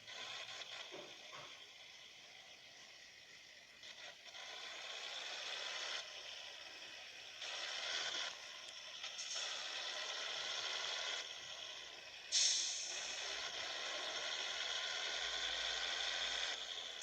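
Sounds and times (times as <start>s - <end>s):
road noise: 0.0s - 17.0s
truck diesel engine: 0.0s - 17.0s.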